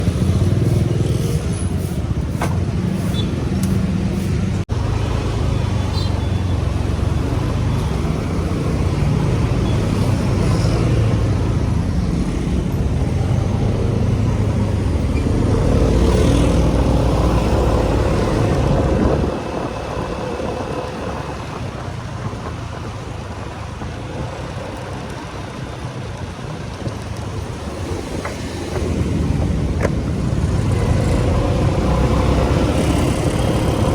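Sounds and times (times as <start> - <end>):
motorcycle engine: 0.0 - 33.9
road noise: 0.0 - 33.9.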